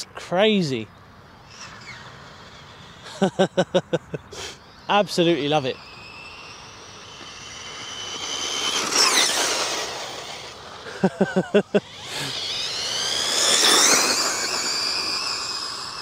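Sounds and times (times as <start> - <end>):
rc buggy motor whining: 1.1 - 16.0
rapid stutter of pulses: 1.4 - 3.6, 4.5 - 16.0.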